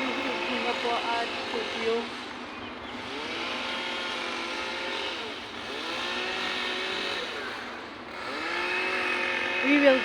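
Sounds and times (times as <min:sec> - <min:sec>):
vehicle engines accelerating past: 0:00.0 - 0:10.0.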